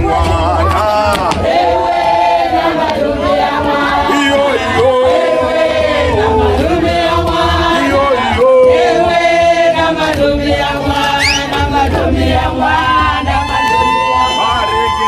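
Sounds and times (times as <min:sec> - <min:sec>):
group singing a chant: 0:00.0 - 0:15.0.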